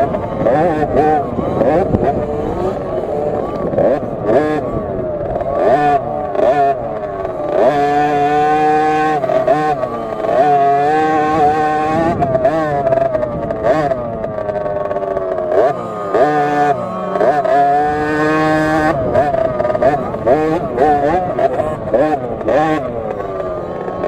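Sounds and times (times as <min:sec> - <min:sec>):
minibike engine revving: 0:00.0 - 0:24.0.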